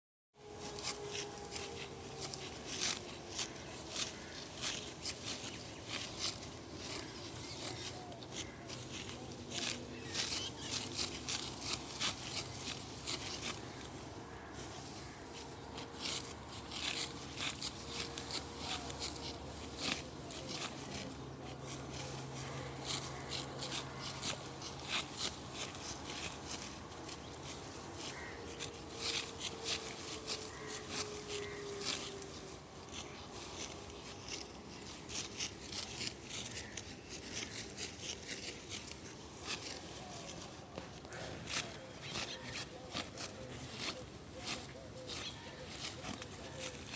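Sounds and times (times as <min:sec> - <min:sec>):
rice stalks rustling and snipping: 0:00.6 - 0:46.9.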